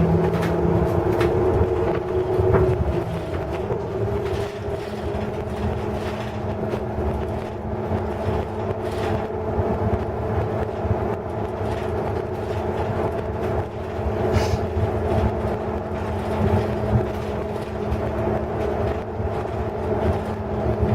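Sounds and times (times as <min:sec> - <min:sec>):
bus drive drone and road noise: 0:00.0 - 0:20.9.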